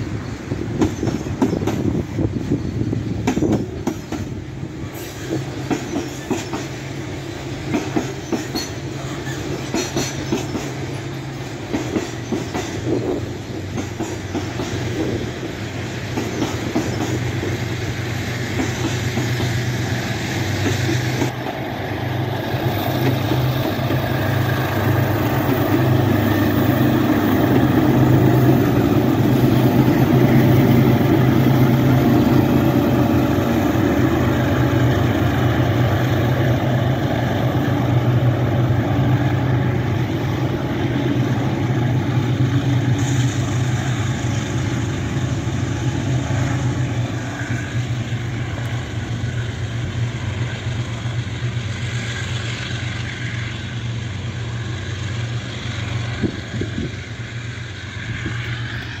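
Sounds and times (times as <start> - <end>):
diesel locomotives droning: 0.0 - 59.0.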